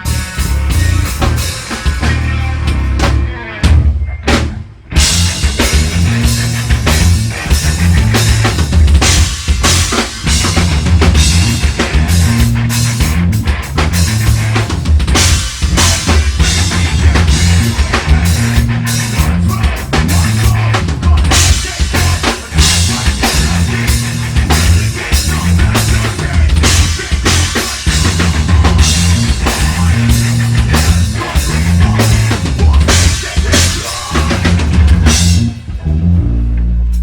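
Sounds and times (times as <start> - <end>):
heavy bass line: 0.0 - 37.0
heavy metal band playing: 0.0 - 37.0
pounding drum kit: 0.0 - 37.0.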